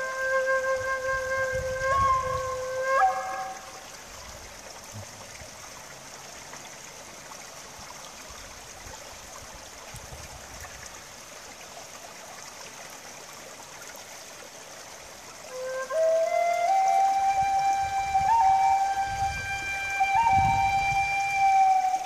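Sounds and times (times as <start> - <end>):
creek water rushing over rocks: 0.0 - 22.0.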